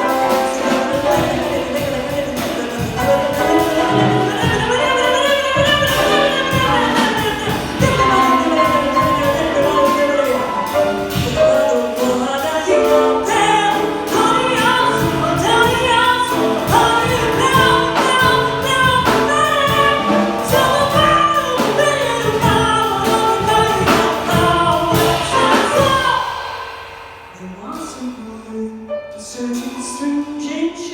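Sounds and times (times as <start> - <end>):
woman singing slow song: 0.0 - 26.5, 27.3 - 30.9
instrumental accompaniment with beat: 0.0 - 28.0.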